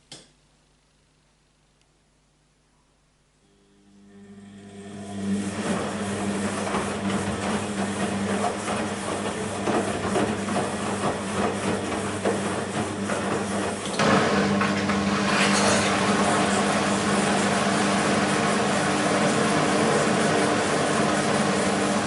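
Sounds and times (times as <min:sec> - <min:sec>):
washing machine motor hum: 0:03.4 - 0:22.0.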